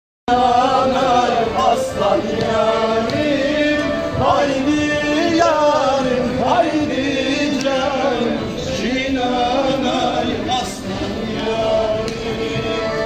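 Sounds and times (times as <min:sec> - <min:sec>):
people singing folk song: 0:00.3 - 0:13.0.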